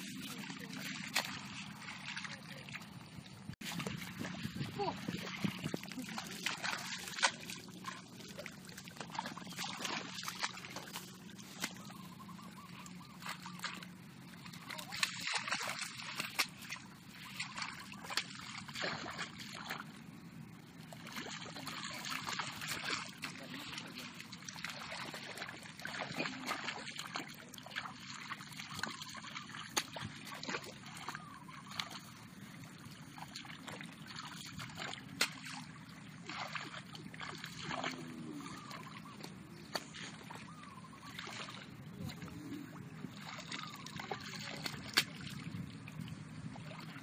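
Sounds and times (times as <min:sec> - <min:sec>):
muddy water sloshing and splashing: 0:00.0 - 0:47.0.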